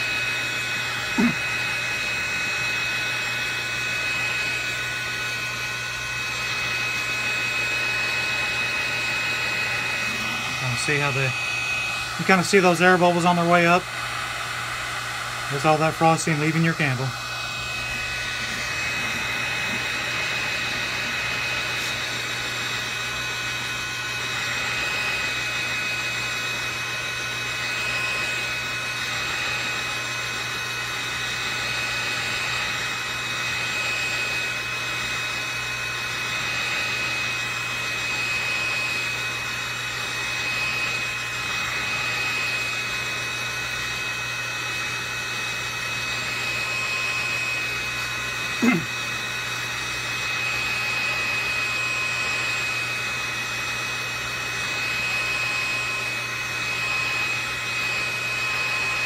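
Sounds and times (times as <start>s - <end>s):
heat gun whining and blowing: 0.0s - 59.0s.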